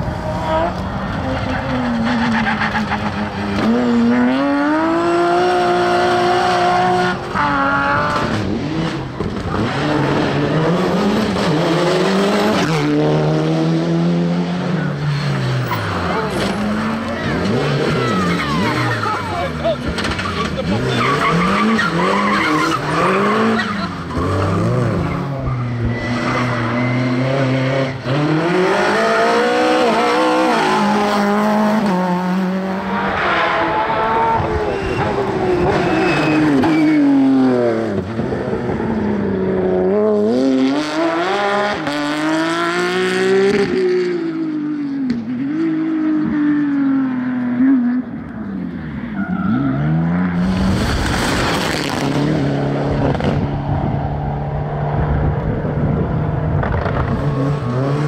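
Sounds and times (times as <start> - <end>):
rally cars passing revving: 0.0 - 58.0.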